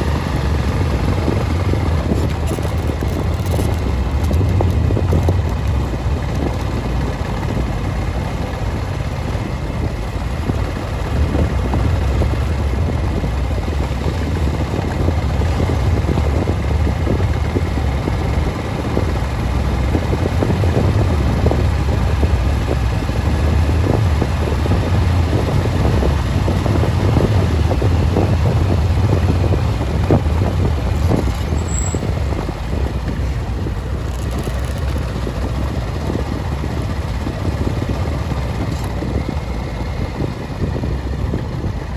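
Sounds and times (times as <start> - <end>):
vehicle road rumble: 0.0 - 41.9
wind buffeting microphone: 0.0 - 41.9.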